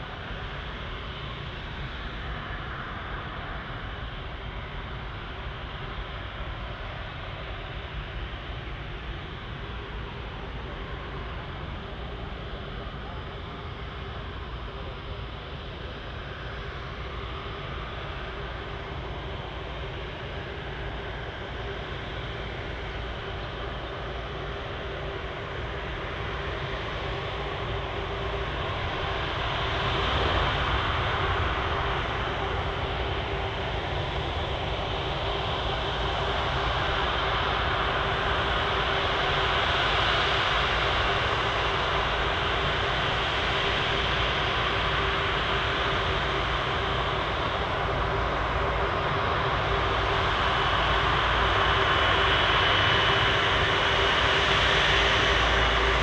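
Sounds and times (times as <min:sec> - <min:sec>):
airliner engines running: 0:00.0 - 0:56.0
constant hum: 0:00.0 - 0:56.0.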